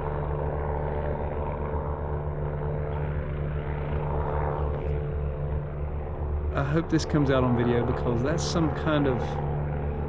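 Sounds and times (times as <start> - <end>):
distant helicopter rotor: 0.0 - 10.0.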